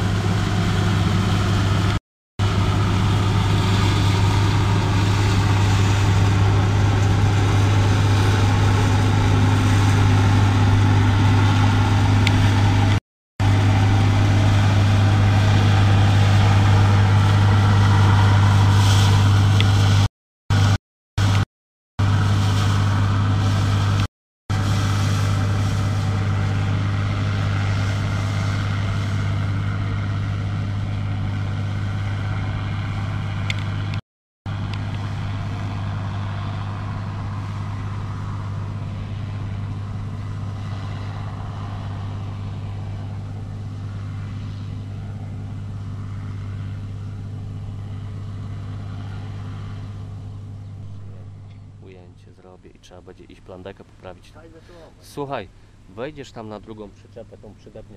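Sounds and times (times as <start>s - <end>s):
combine harvester engine humming: 0.0s - 21.4s, 22.0s - 57.9s.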